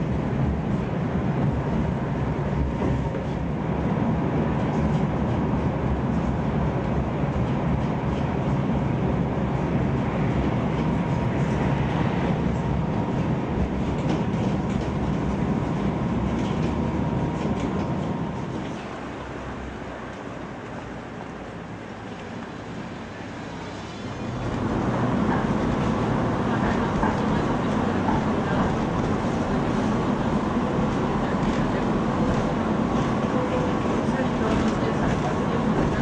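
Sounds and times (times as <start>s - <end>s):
tram wheels rumbling: 0.0s - 36.0s.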